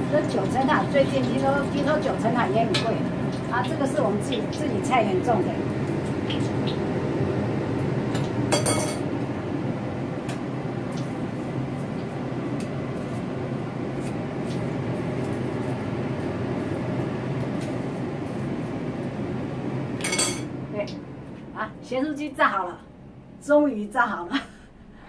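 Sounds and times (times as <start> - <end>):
kitchen hum and hiss: 0.0 - 25.0.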